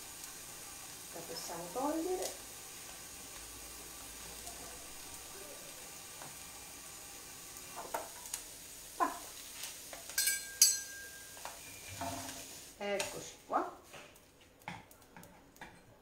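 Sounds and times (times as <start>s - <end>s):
fish sizzling on a grill pan: 0.0s - 13.3s.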